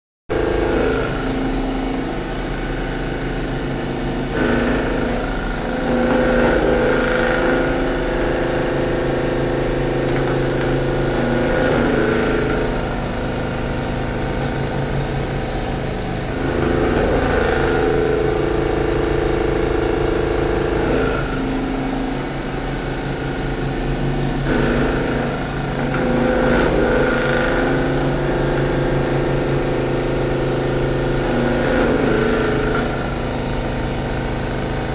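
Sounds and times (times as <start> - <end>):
machine running hum: 0.3 - 34.9.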